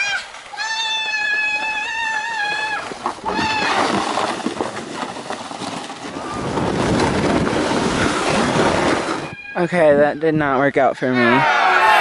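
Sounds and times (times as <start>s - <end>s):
sled sliding over snow: 0.0s - 10.0s.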